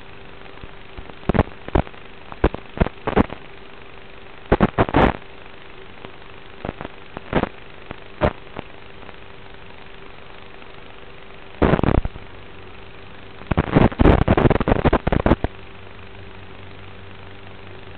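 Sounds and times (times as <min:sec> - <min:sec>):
faint hum: 0:00.0 - 0:17.9
static crackles: 0:00.0 - 0:17.9
steady radio hiss: 0:00.0 - 0:17.9.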